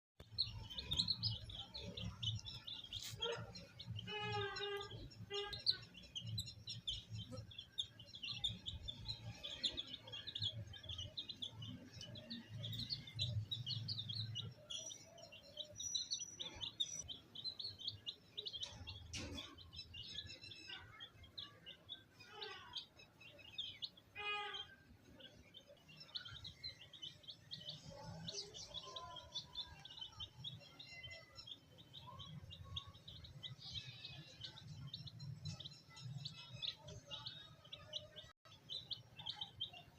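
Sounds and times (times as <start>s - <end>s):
baby chicks peeping: 0.2s - 39.9s.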